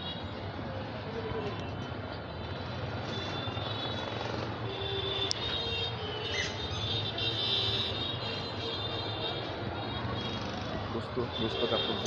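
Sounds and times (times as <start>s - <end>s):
street traffic din: 0.0s - 12.0s.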